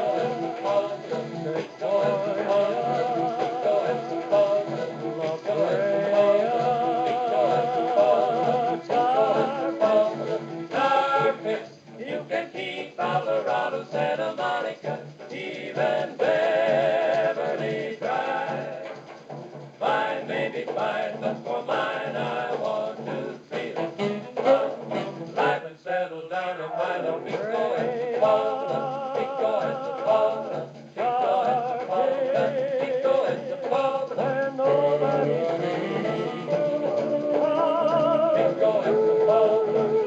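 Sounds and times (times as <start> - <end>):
person singing with vibrato: 0.0 - 18.9, 19.8 - 40.0
dance orchestra playing: 0.0 - 25.6, 26.8 - 40.0.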